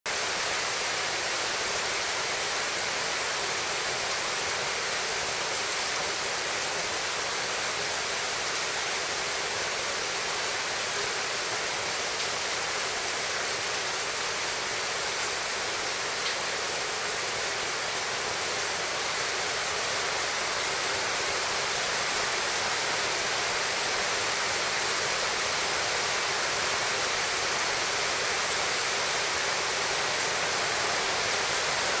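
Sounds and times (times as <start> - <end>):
stream running: 0.1 - 32.0.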